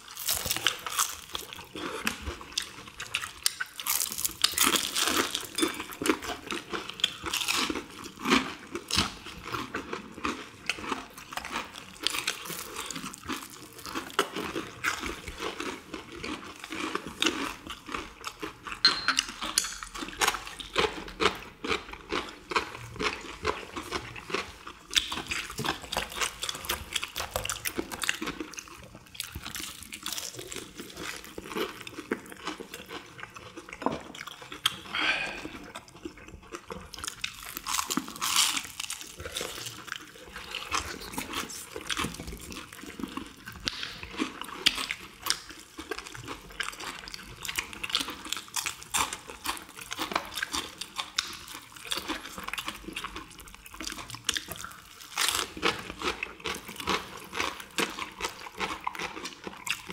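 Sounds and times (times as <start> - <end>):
crunching fried chicken: 0.0 - 18.8, 19.8 - 59.9.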